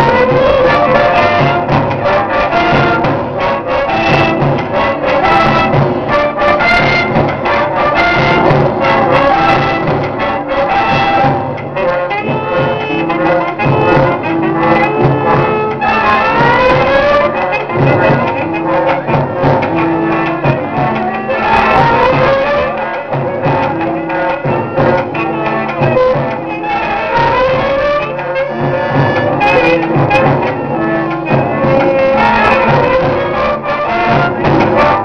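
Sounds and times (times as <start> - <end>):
percussion strikes: 0.0 - 35.0
symphonic band playing: 0.0 - 35.0.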